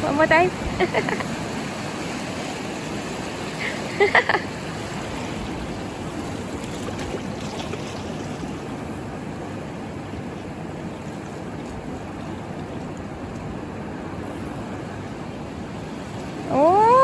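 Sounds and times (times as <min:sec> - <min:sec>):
ocean surf washing on shore: 0:00.0 - 0:17.0.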